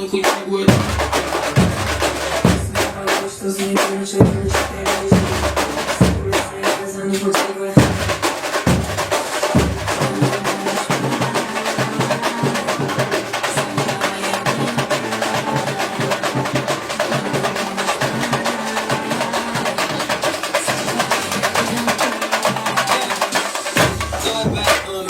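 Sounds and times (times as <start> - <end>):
band music with fast percussion: 0.0 - 25.0.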